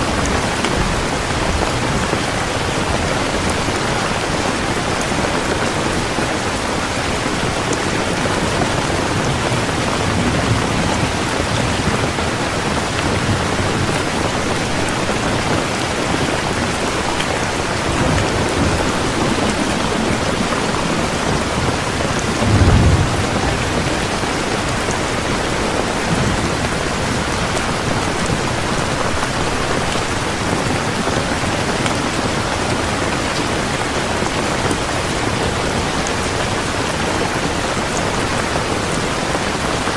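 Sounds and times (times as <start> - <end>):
thunder rumbles: 0.0 - 37.4
heavy rain falling: 0.0 - 39.9.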